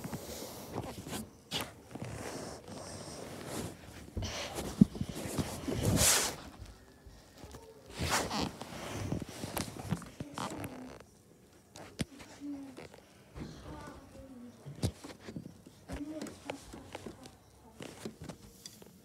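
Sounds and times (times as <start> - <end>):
rustling handling noises: 0.0 - 19.0.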